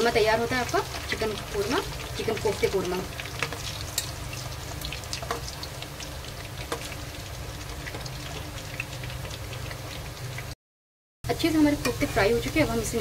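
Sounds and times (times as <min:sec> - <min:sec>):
food sizzling in hot oil: 0:00.0 - 0:10.6, 0:11.3 - 0:13.0.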